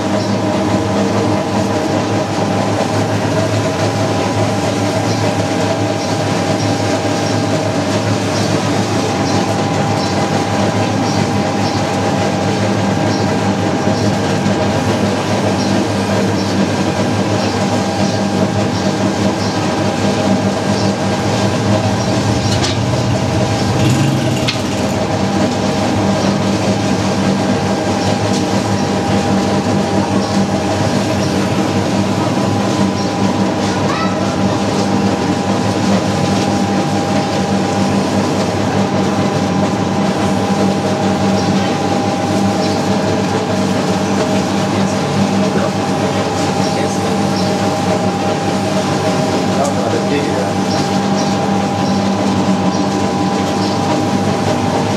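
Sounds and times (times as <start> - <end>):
grinding machine humming: 0.0 - 54.9.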